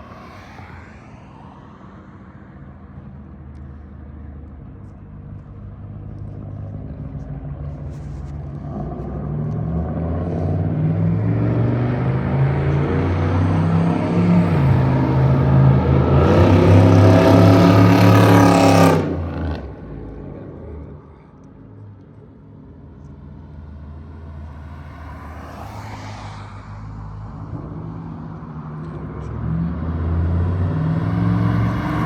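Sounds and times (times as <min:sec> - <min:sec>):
car engine under throttle: 0:02.9 - 0:32.0.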